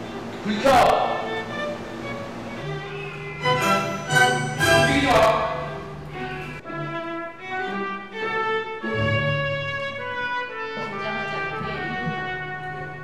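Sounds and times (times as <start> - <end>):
slow music with held notes: 1.0 - 13.0.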